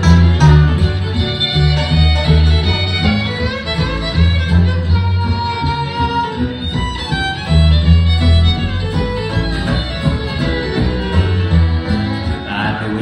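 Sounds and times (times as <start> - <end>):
acoustic guitar: 0.0 - 13.0
banjo: 0.0 - 13.0
fiddle playing lead: 0.0 - 13.0
mandolin: 0.0 - 13.0
walking upright bass: 0.0 - 13.0.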